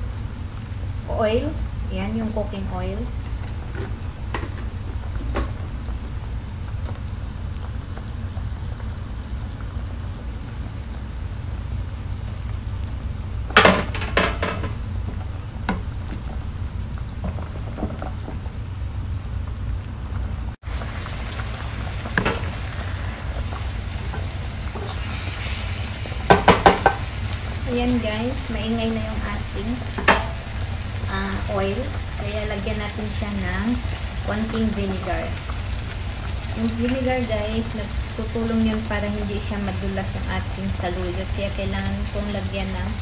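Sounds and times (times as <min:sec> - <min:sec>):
oil sizzling in a frying pan: 0:00.0 - 0:43.0.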